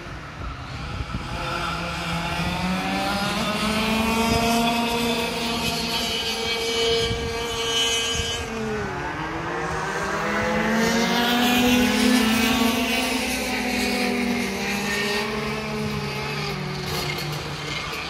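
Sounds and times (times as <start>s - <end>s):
racing kart engines: 0.0s - 18.0s.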